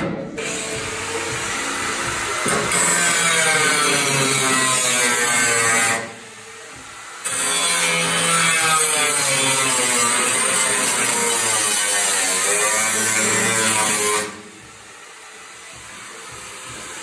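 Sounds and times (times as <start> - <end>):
angle grinder cutting metal: 0.4 - 17.0.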